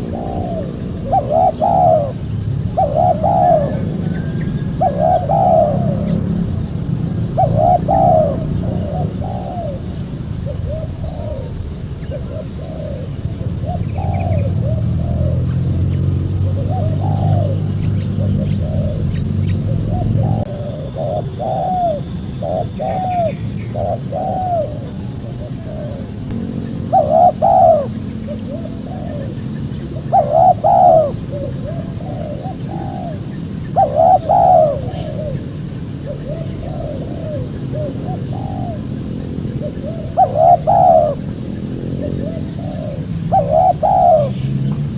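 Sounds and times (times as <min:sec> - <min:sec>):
doves cooing: 0:00.0 - 0:44.9
steady low hum: 0:00.0 - 0:44.9.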